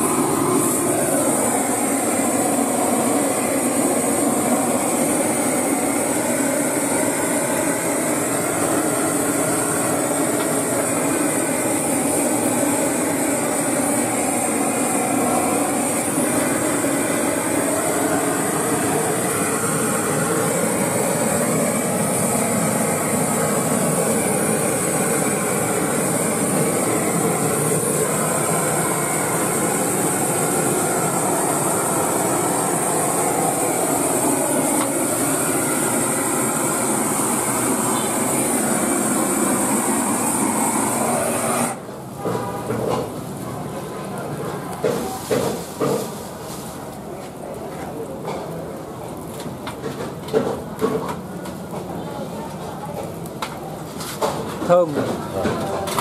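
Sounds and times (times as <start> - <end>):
gas burner torch rushing: 0.0 - 56.0.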